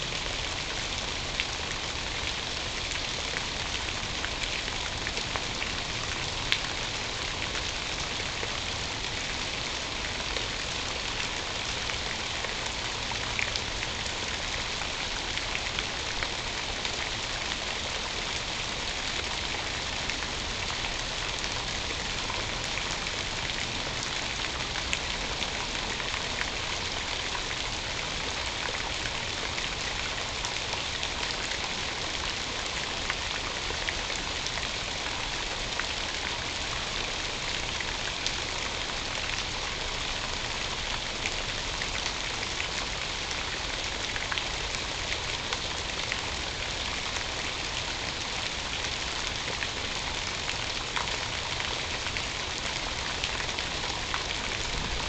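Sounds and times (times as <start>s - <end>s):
raindrops ticking close by: 0.0s - 55.0s
steady rain: 0.0s - 55.0s.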